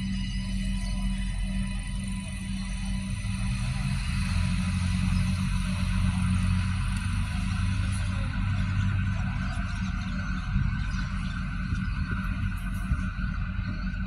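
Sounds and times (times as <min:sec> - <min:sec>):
diesel railcar engine hum: 0:00.0 - 0:14.0.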